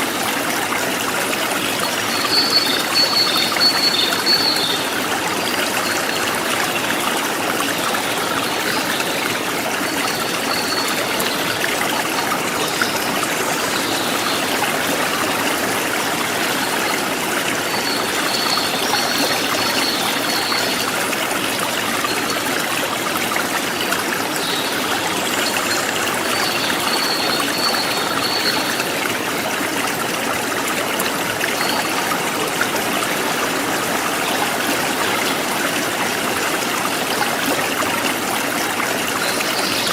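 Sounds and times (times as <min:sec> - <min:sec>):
river stream flowing: 0:00.0 - 0:39.9.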